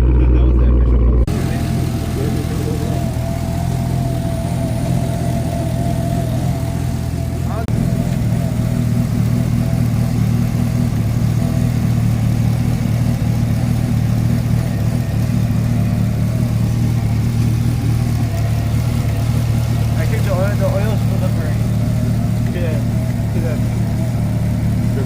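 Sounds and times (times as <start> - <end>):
car engine idling with misfire: 0.0 - 25.0.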